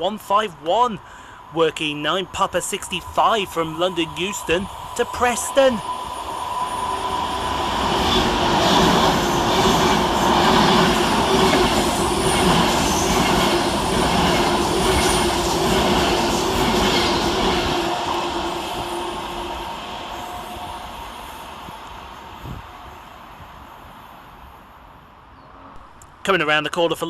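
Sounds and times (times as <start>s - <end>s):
electric train hum: 0.0s - 26.2s
wheels rushing on rail: 2.9s - 25.9s.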